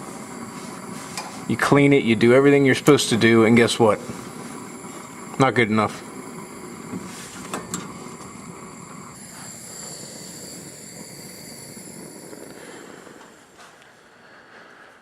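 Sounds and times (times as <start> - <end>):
torch flame hissing: 0.0 - 14.4.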